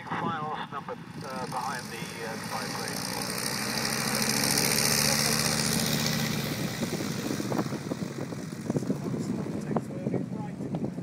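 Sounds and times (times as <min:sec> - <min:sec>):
light aircraft engine and propeller: 0:00.0 - 0:11.0.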